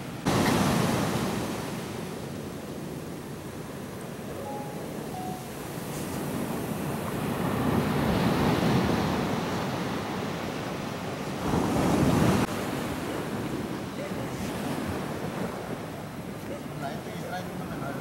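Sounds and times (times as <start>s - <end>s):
surf breaking on beach: 0.0s - 3.6s, 5.6s - 16.6s.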